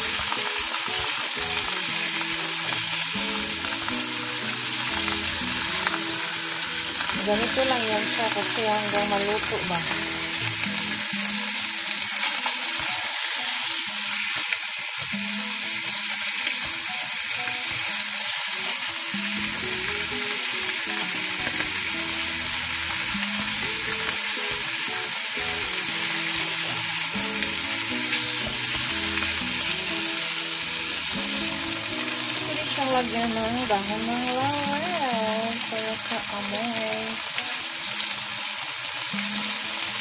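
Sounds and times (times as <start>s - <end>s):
meat sizzling in a pot: 0.0s - 40.0s.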